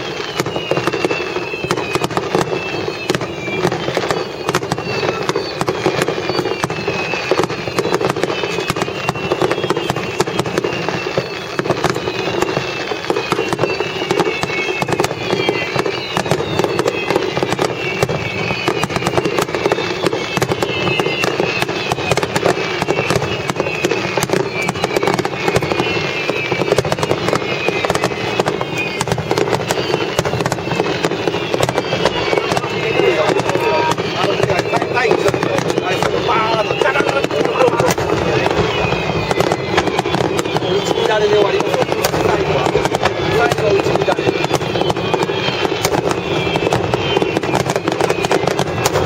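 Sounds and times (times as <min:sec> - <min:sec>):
descending firework whistles: 0:00.0 - 0:49.0
fireworks exploding: 0:00.0 - 0:49.0.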